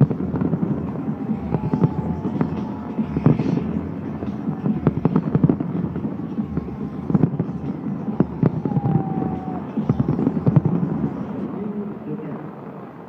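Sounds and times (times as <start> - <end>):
continuous low rumble: 0.0 - 13.0
fireworks bangs and cracks: 0.0 - 13.0.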